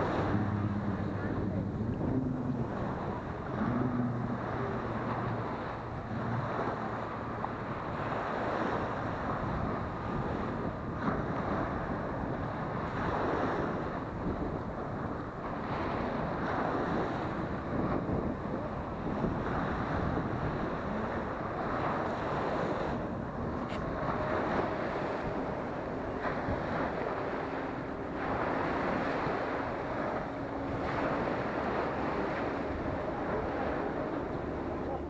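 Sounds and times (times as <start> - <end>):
waves washing up a sandy shore: 0.0 - 35.0
wind buffeting microphone: 0.0 - 35.0.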